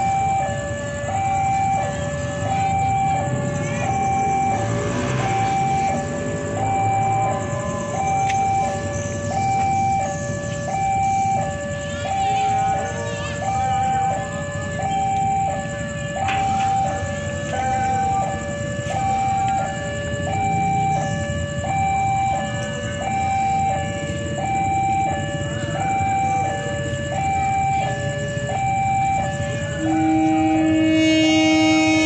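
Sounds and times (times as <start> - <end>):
two-tone level crossing alarm: 0.0 - 32.0.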